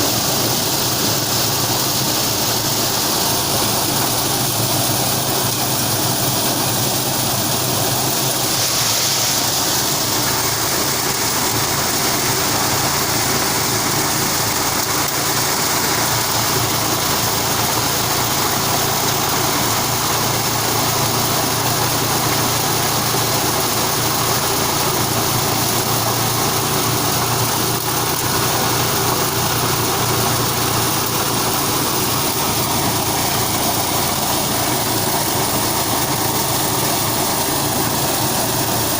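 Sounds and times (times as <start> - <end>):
corn processing machine droning: 0.0 - 38.9
loud high hiss: 0.0 - 38.9.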